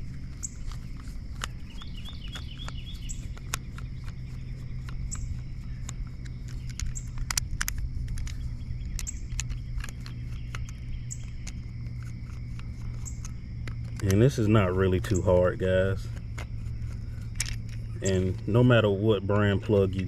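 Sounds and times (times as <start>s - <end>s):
bird chirps: 0.0s - 20.0s
low steady hum: 0.0s - 20.0s
plastic plug parts handled: 0.1s - 15.2s, 16.0s - 18.6s.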